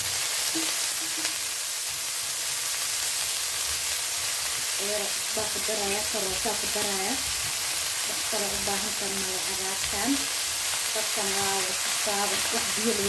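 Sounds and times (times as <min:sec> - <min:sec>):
greens sizzling in a metal pan: 0:00.0 - 0:13.0.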